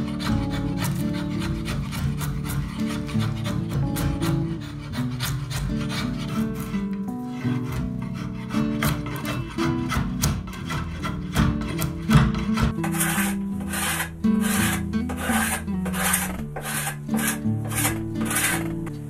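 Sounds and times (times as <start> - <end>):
background guitar music: 0.0 - 19.0
shaving strokes on wood: 0.0 - 19.0
wood rasp scraping: 0.0 - 19.0.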